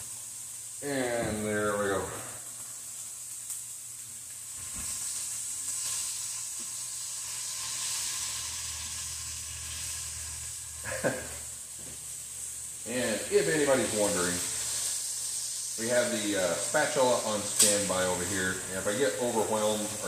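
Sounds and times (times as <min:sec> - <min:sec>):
meat and peppers sizzling in a pan: 0:00.0 - 0:20.0.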